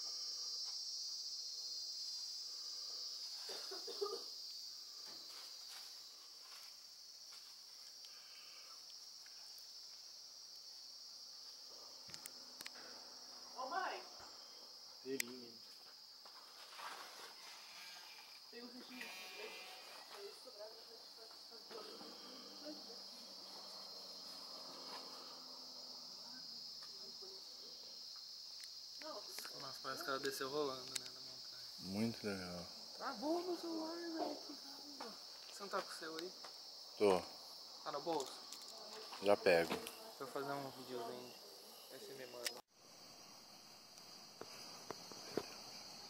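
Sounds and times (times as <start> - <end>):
crickets trilling: 0.0 - 46.0
insects chirring: 0.0 - 46.0.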